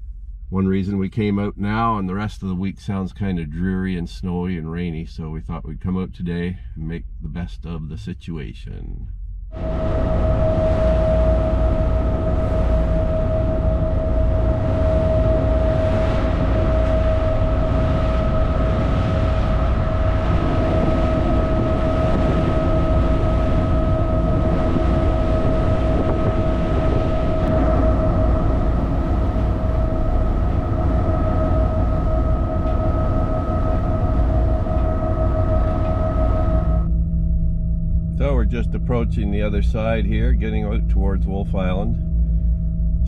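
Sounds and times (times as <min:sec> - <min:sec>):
constant high whine: 0:00.0 - 0:43.0
low engine rumble: 0:00.0 - 0:43.0.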